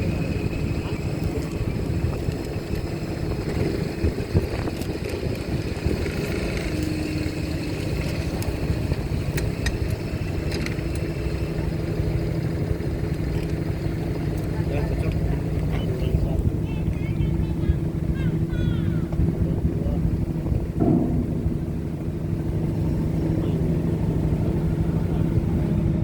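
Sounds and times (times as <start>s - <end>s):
heavy engines rumbling: 0.0s - 26.0s.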